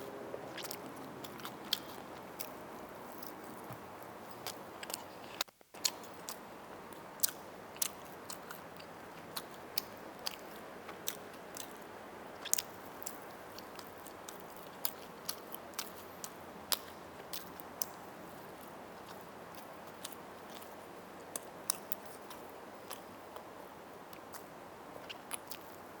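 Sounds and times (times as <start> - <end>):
person chewing food: 0.0 - 23.5, 24.1 - 25.8.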